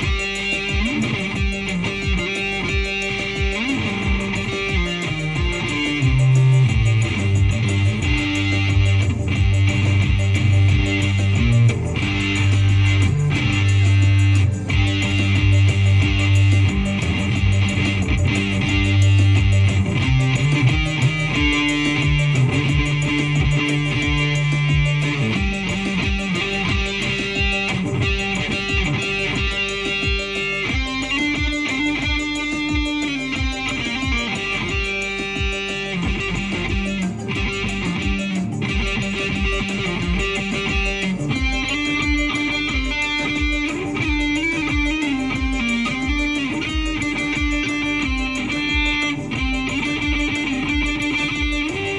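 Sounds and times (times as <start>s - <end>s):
electric guitar held notes: 0.0s - 51.9s
low thumping beat: 0.0s - 51.9s.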